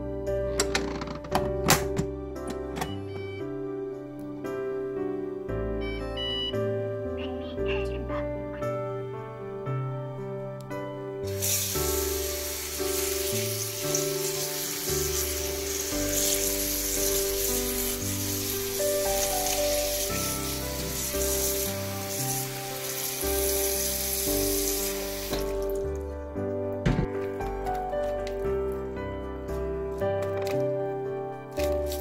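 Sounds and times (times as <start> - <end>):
background music with held notes: 0.0 - 32.0.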